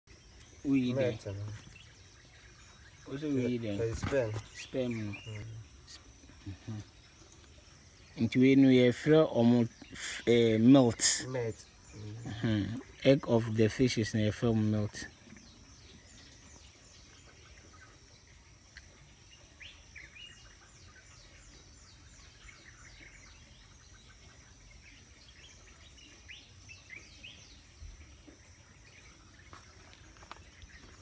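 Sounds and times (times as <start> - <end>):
birds calling: 0.1 - 31.0
high insect hum: 0.1 - 31.0.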